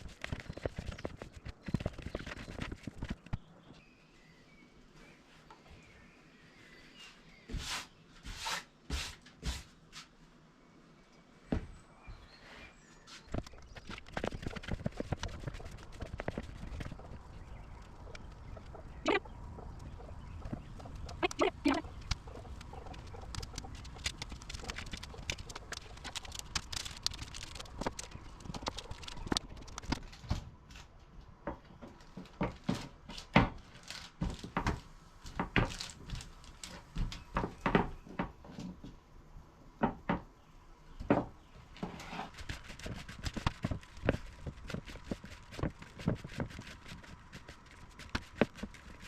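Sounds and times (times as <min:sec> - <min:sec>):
low steady background noise: 0:00.0 - 0:49.0.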